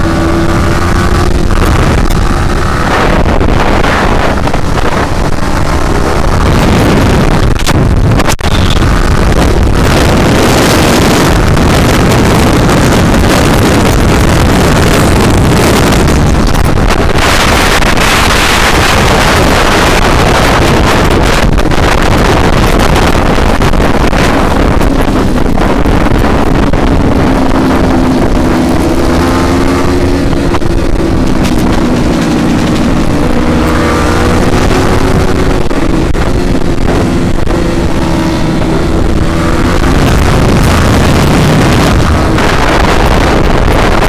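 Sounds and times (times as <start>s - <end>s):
motorcycle engine revving: 0.0s - 44.0s
wind buffeting microphone: 0.0s - 44.0s.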